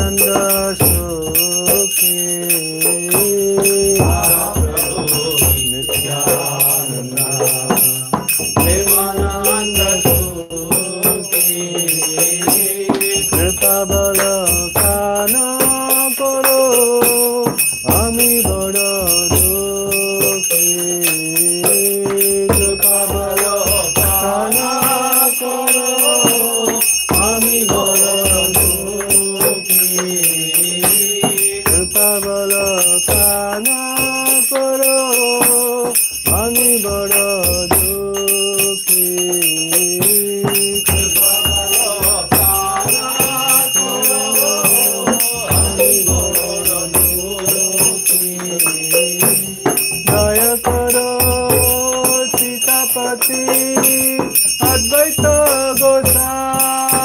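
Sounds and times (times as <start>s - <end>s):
bell ringing: 0.0s - 57.0s
devotional music: 0.0s - 57.0s.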